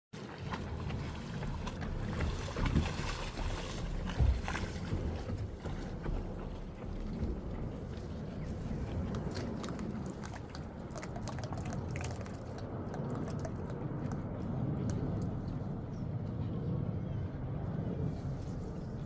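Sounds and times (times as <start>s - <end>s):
stream clicks and splashes: 0.2s - 16.0s
wind rumbling on microphone: 0.2s - 19.0s.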